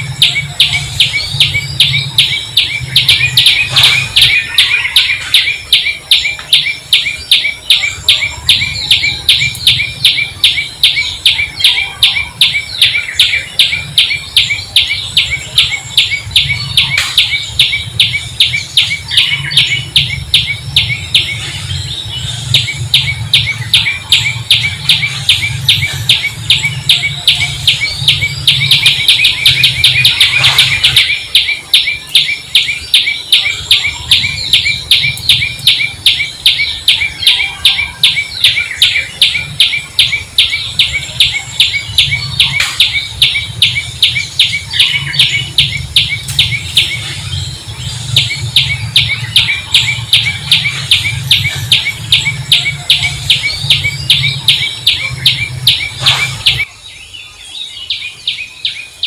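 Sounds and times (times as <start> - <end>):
small bird chirping rapidly: 0.0 - 59.0.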